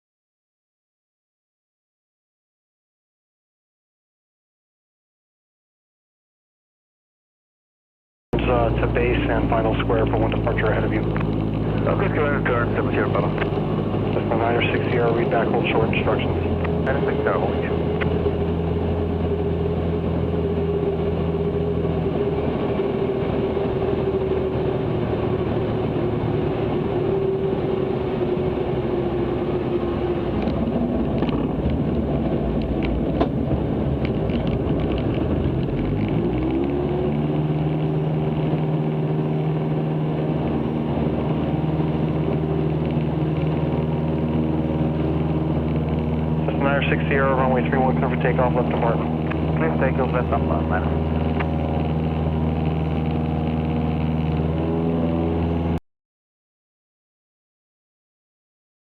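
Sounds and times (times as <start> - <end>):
light aircraft engine droning: 8.4 - 55.8.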